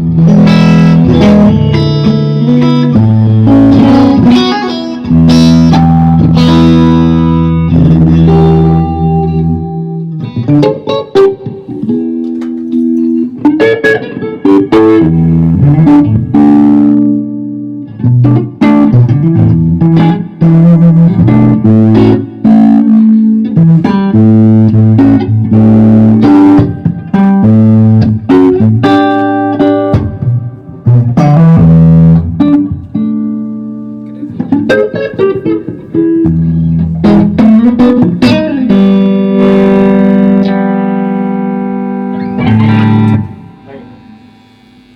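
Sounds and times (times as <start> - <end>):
electric guitar chords and riffs: 0.0 - 44.9.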